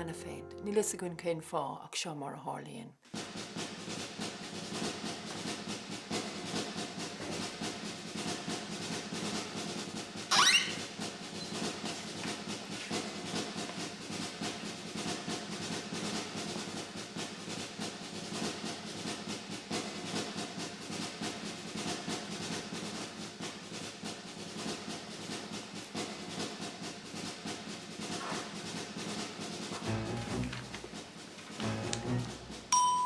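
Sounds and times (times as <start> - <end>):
fast drum roll: 3.1 - 32.8.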